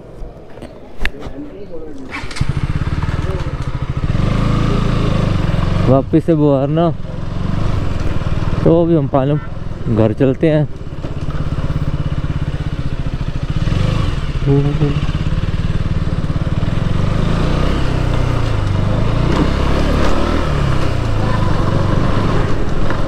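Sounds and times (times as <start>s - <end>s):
motorcycle engine running: 2.2s - 23.0s.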